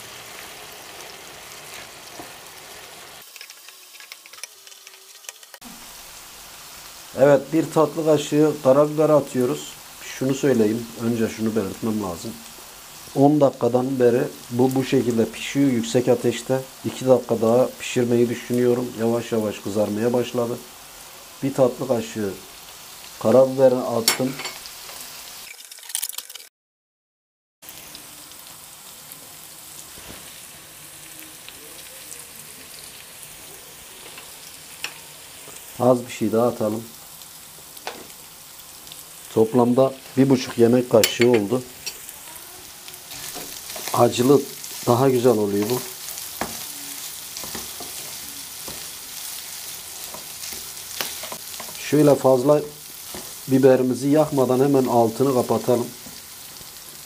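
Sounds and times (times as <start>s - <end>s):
chicken livers sizzling in oil: 0.0s - 26.5s, 27.6s - 57.0s.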